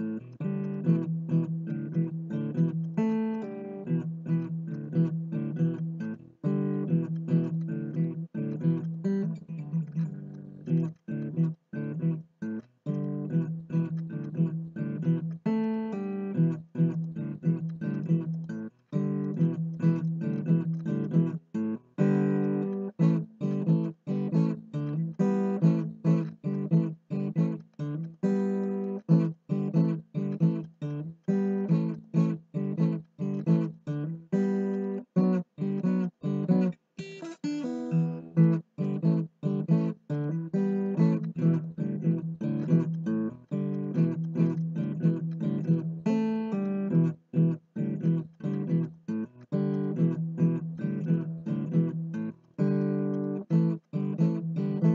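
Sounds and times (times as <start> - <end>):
acoustic guitar chords: 0.0 - 54.9.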